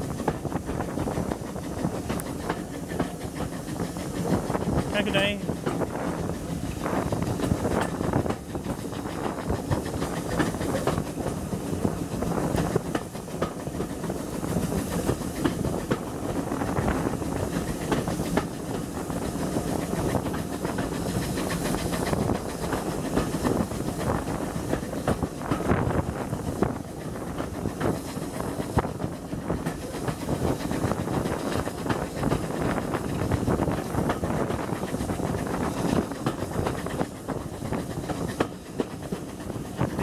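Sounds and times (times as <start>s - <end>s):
train rumble and rushing air: 0.0s - 40.0s
wheels clicking over rail joints: 0.2s - 40.0s.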